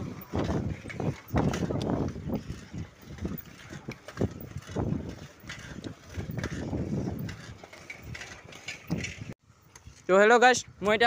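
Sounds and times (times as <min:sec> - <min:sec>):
tyre rumble on road: 0:00.0 - 0:09.4
bicycle chain clicking and rattling: 0:00.0 - 0:11.0.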